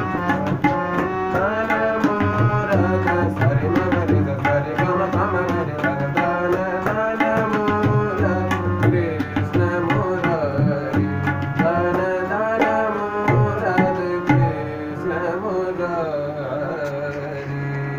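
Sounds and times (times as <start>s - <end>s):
tabla strokes: 0.0s - 14.7s.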